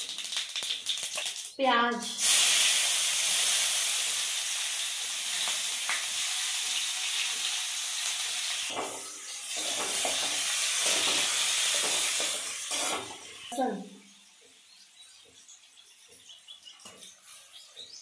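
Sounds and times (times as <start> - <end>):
onions sizzling in hot oil: 0.1 - 15.0.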